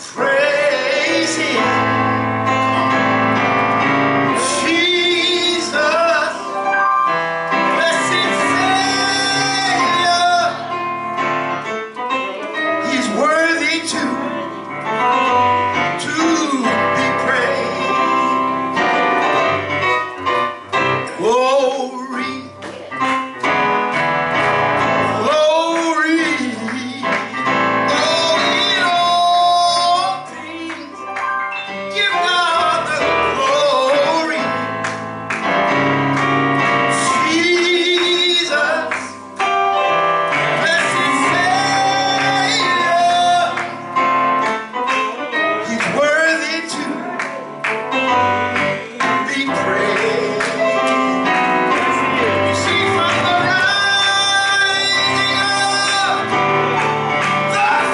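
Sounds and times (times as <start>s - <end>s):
gospel singing with accompaniment: 0.0s - 57.9s.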